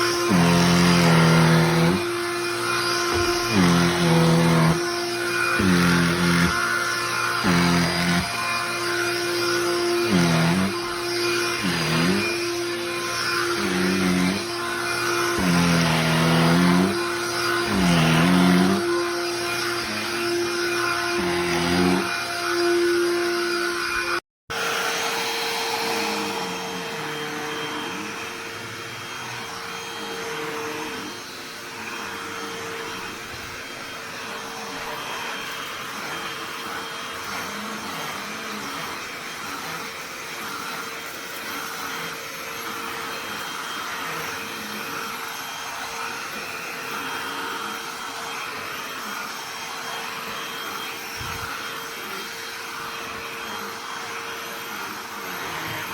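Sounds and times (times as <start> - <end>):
handheld vacuum running: 0.0 - 55.9.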